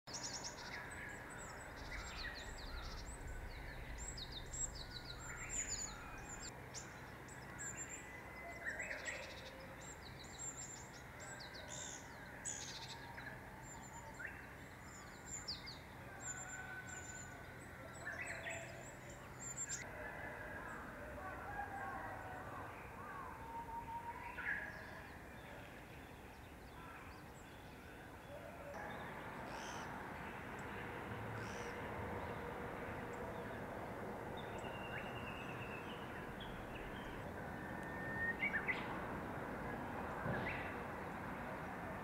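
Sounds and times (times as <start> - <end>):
songbirds singing and calling: 0.1 - 42.0.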